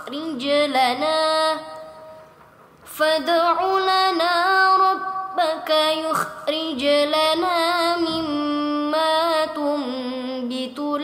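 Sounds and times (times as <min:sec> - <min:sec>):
woman reciting melodically: 0:00.0 - 0:11.0.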